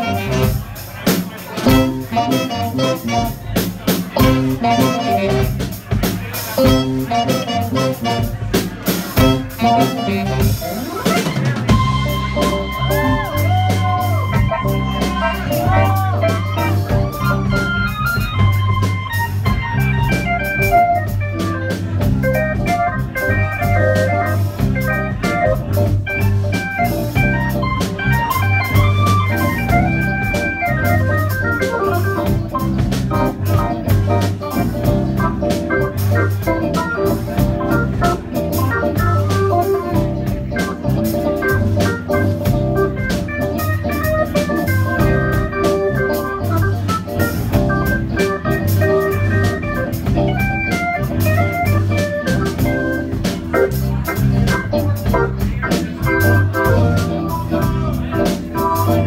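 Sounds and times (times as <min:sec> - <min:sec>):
live funk band playing: 0:00.0 - 0:59.0
organ melodic lines: 0:01.6 - 0:05.7, 0:06.4 - 0:59.0.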